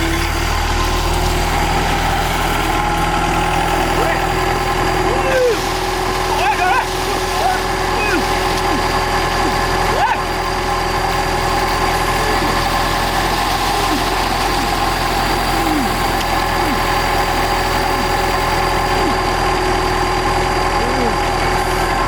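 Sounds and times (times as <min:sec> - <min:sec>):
excavator engine idling: 0:00.0 - 0:22.0.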